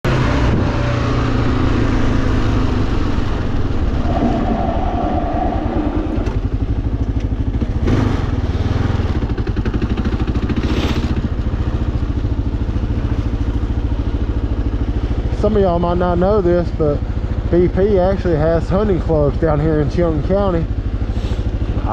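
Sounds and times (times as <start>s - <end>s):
motorcycle engine running: 0.1s - 21.9s.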